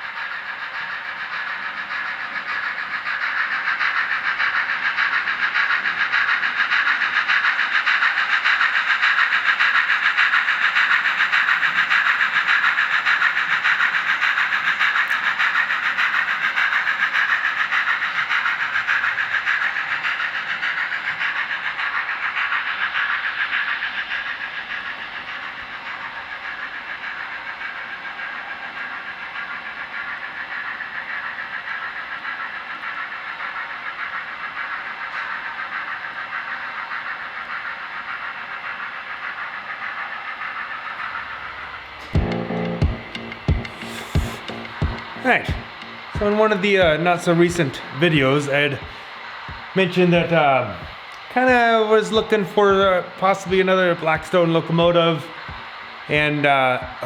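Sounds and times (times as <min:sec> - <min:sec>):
model steam locomotive sounds: 0:00.0 - 0:57.0.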